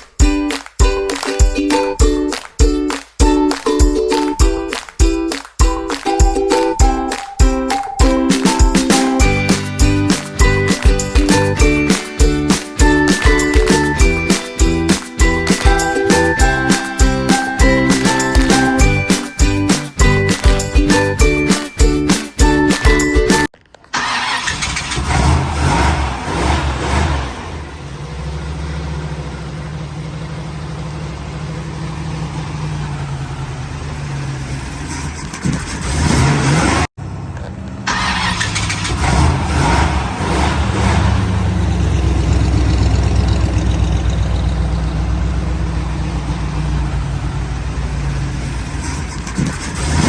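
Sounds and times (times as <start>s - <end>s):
car engine starting and idling: 6.4s - 50.0s.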